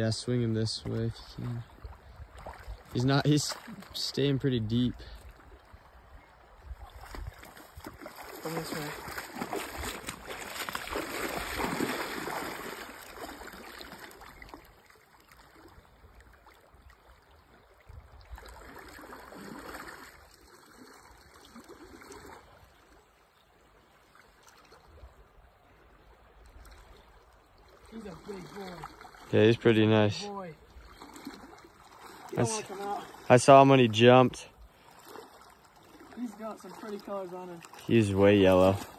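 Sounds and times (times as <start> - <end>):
stream flowing: 0.0 - 38.9
water sloshing around wading legs: 0.7 - 4.2, 5.2 - 25.3, 26.3 - 38.9.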